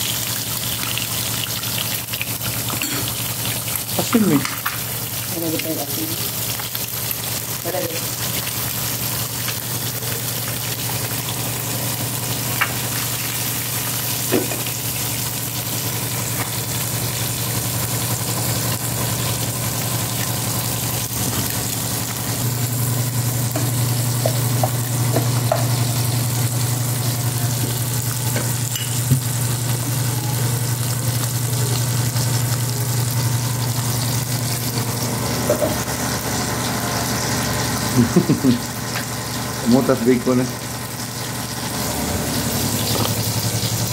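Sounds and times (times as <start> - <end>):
bacon sizzling in a pan: 0.0 - 43.9.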